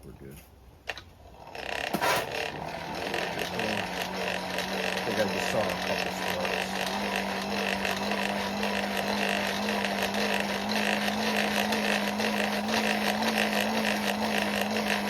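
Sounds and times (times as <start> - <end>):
forge blower humming: 1.3 - 15.0.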